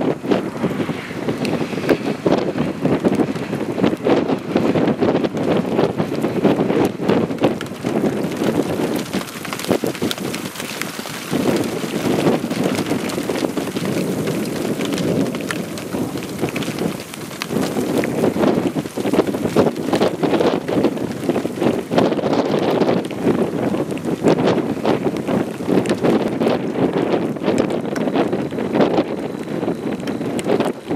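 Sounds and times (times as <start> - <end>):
rain falling: 0.0 - 30.9
wind buffeting microphone: 0.0 - 30.9.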